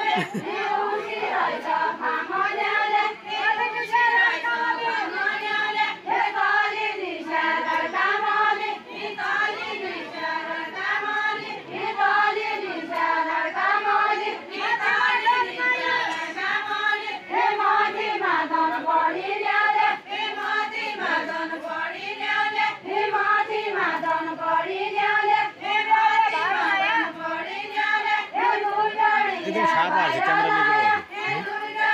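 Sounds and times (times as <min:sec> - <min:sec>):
crowd of women singing folk song: 0:00.0 - 0:31.9.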